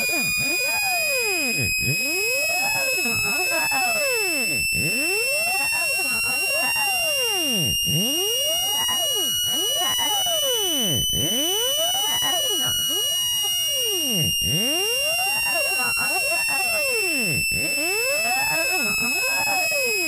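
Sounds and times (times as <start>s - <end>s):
gliding electronic tones: 0.0s - 20.0s
high-pitched electronic beep: 0.0s - 20.0s.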